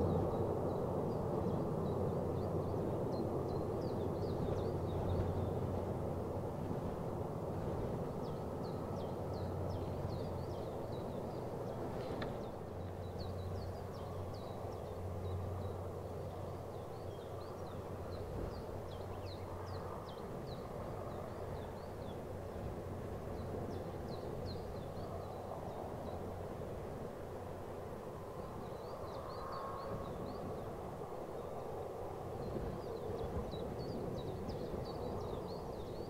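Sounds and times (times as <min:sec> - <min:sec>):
distant turboprop engines droning: 0:00.0 - 0:36.0.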